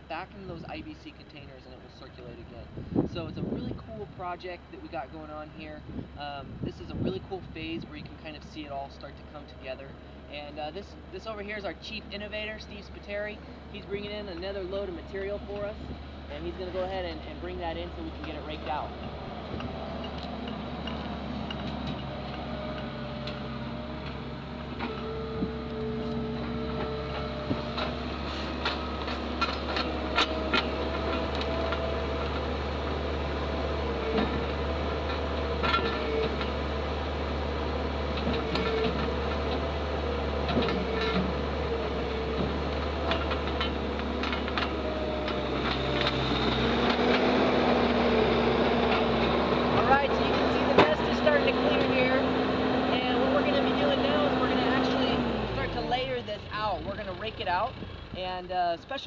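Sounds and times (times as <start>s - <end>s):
loader diesel engine running: 0.0s - 59.0s
loader arms clanking and rattling: 6.9s - 58.2s.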